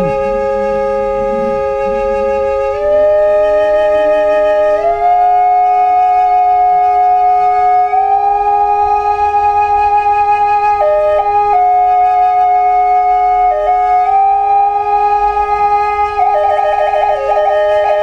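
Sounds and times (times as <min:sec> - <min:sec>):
drone flute melody: 0:00.0 - 0:18.0.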